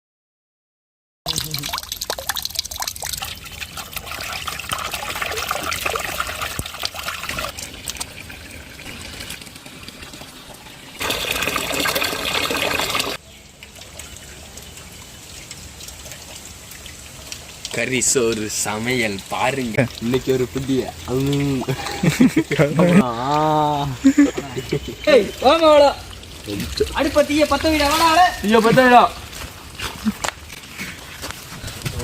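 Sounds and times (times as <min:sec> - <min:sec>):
water pouring and trickling: 0:01.3 - 0:32.0.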